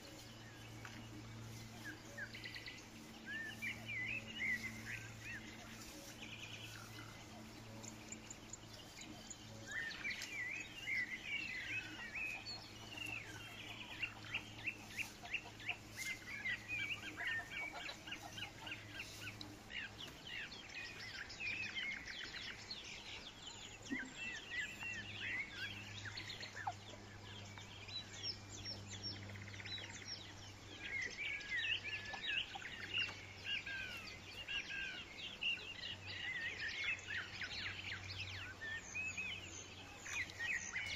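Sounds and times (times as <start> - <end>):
birds chirping and calling: 0.0 - 40.9
low steady hum: 0.0 - 40.9.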